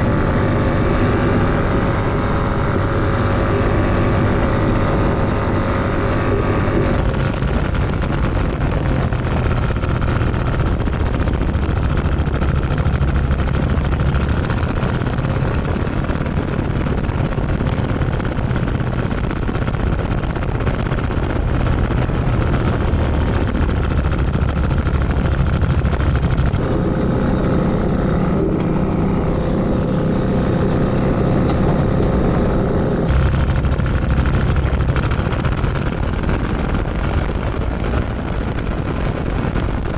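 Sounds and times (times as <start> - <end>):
aircraft engine and propeller: 0.0 - 39.9
wind noise: 0.0 - 39.9.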